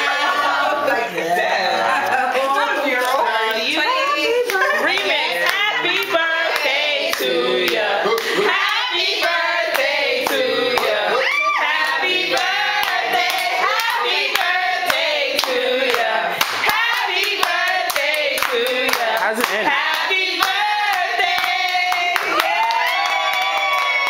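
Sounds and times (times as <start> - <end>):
group of people singing: 0.0 - 23.0.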